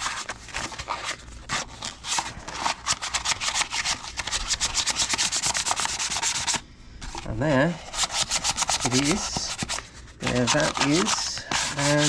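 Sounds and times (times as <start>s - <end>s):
sandpaper scratching on plastic: 0.0s - 6.6s, 7.8s - 12.0s.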